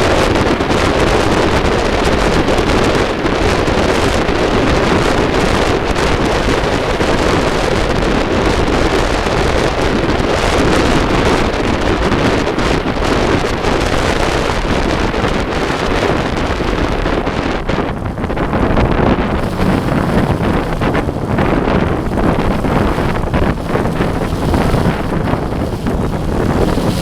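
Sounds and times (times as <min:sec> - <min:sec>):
motorcycle engine running: 0:00.0 - 0:27.0
wind buffeting microphone: 0:00.0 - 0:27.0.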